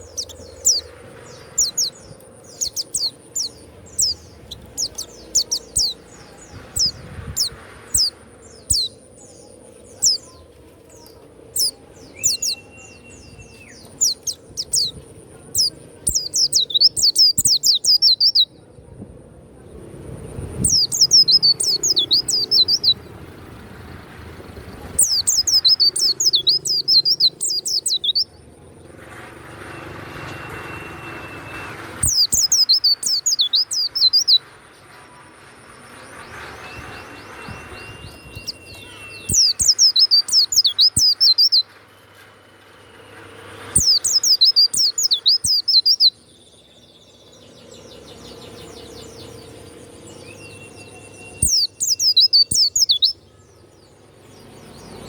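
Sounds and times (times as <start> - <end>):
bird chattering song: 0.0 - 18.6, 20.5 - 23.2, 24.8 - 28.4, 32.0 - 34.6, 36.1 - 41.8, 43.6 - 55.0.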